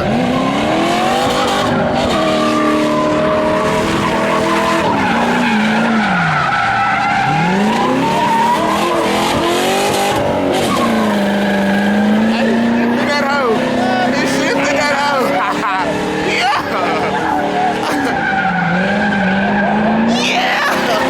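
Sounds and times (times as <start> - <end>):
car engine revving: 0.0 - 21.0
tyres skidding on pavement: 0.0 - 21.0.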